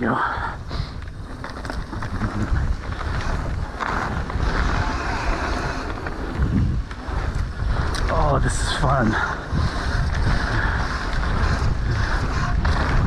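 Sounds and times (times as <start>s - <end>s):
wind buffeting microphone: 0.0s - 13.0s
bike tyres hissing over dirt: 0.5s - 13.0s.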